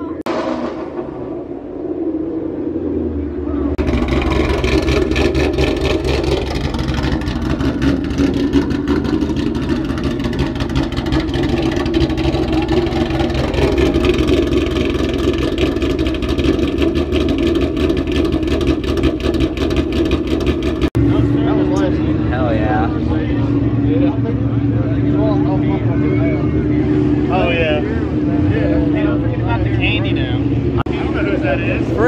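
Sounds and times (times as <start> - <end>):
car engine running at high revs: 0.0 - 32.0.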